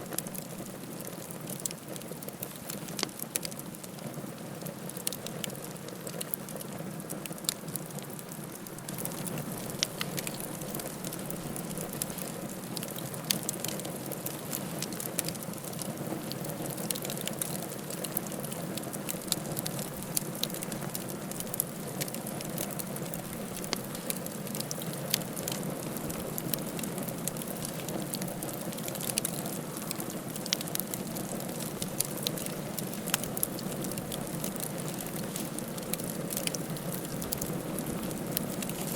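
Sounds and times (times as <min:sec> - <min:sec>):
burning wood crackling and popping: 0:00.0 - 0:38.9
campfire flames rushing: 0:00.0 - 0:38.9.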